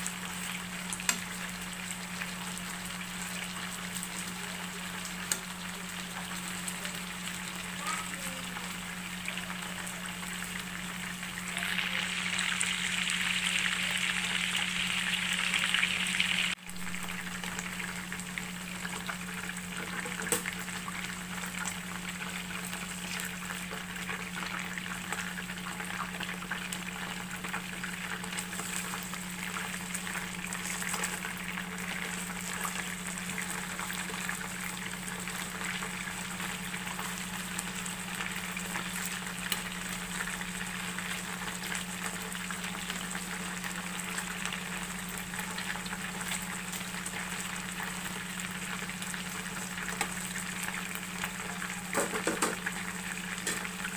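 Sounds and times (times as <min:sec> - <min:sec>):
chicken sizzling in a pan: 0:00.0 - 0:53.9.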